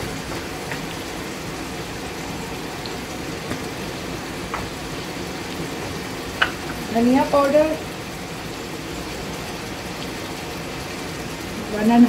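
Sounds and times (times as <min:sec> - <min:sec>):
tomatoes sizzling in oil: 0:00.0 - 0:12.0.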